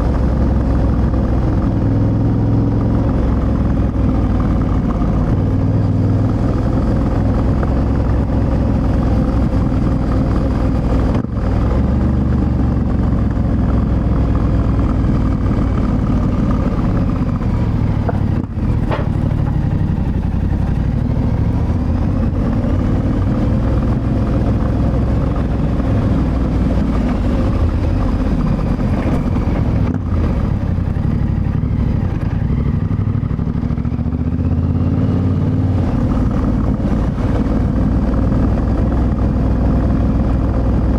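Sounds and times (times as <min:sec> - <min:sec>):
motorcycle engine under load: 0:00.0 - 0:40.9.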